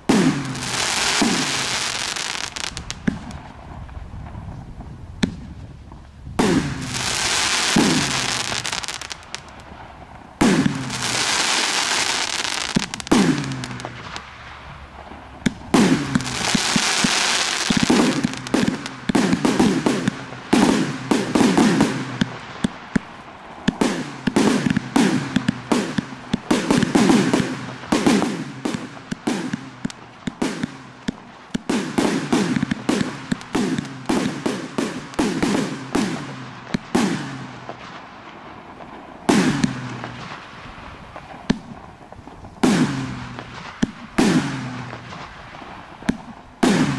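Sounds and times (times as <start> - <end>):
fireworks shots firing: 0.0 - 46.9
hissing of firework bursts: 0.0 - 46.9.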